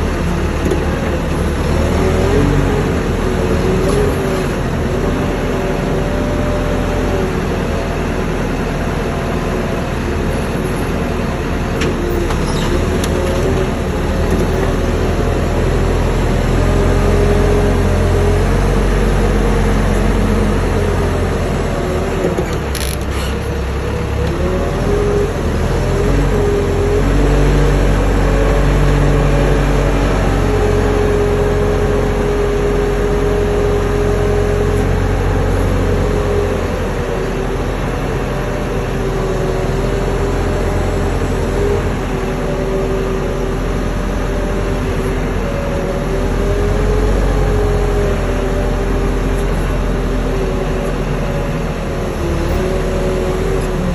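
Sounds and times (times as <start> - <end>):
forklift engine running under load: 0.0 - 53.9.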